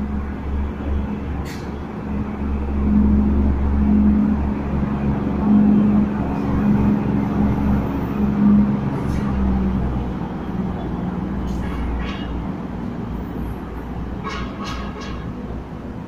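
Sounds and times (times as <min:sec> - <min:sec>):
passenger train droning: 0:00.0 - 0:16.0.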